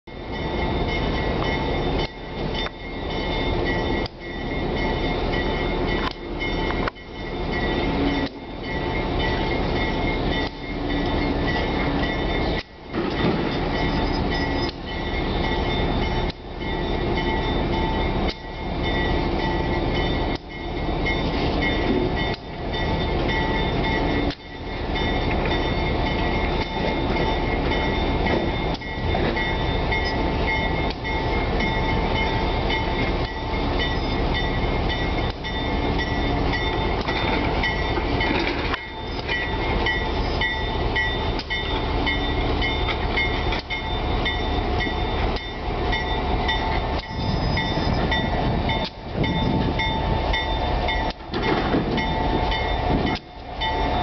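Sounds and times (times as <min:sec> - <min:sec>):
diesel locomotive engine running: 0:00.1 - 0:54.0.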